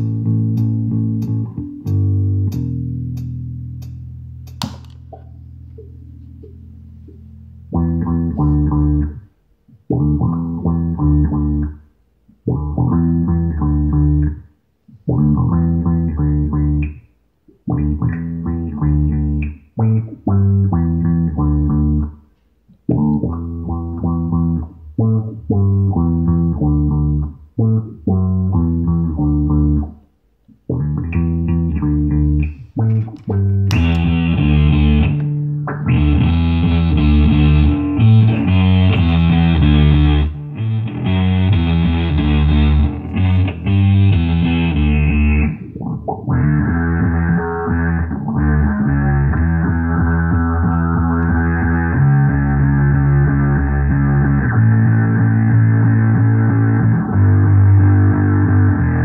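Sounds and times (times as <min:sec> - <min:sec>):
electric bass guitar riff: 0:00.0 - 0:59.0.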